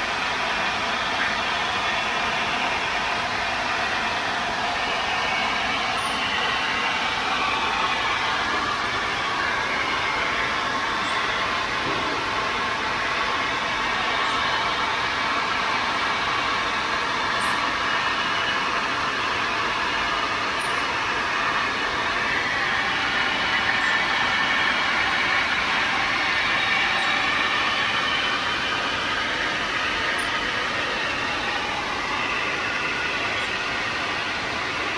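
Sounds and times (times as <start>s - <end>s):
machine running steadily: 0.0s - 34.9s.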